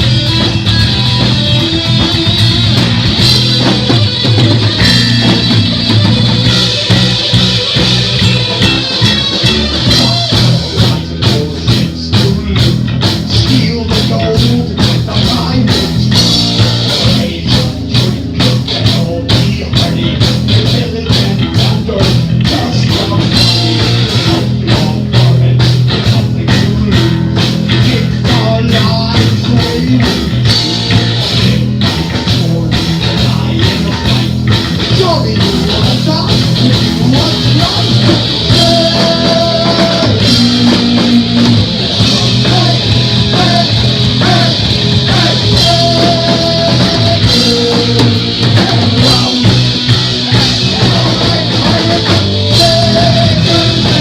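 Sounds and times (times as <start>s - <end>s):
bass guitar: 0.0s - 54.0s
distorted electric guitar: 0.0s - 54.0s
drum kit beat: 0.0s - 54.0s.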